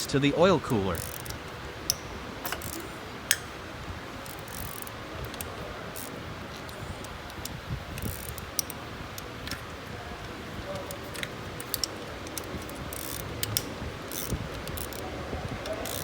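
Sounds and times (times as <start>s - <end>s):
steady background hiss: 0.0s - 16.0s
hand tools clicking on metal: 0.9s - 3.6s, 4.2s - 16.0s.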